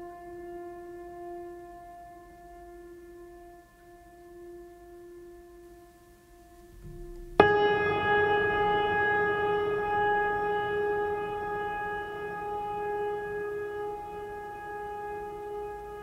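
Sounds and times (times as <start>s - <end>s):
music of long held notes: 0.0s - 16.0s.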